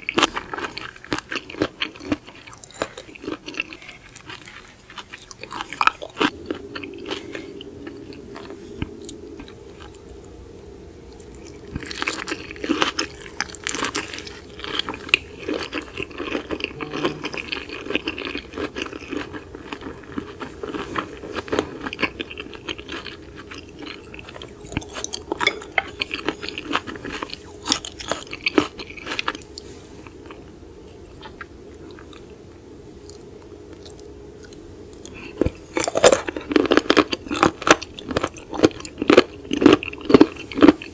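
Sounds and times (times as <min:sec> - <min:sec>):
chewing crunchy food: 0:00.0 - 0:10.3, 0:11.1 - 0:32.4, 0:33.0 - 0:40.9.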